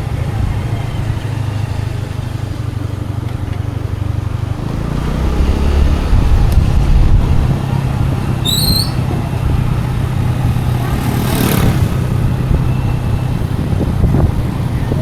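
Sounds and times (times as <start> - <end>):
scooter engine running: 0.0 - 15.0
wind and tyre noise: 0.0 - 15.0.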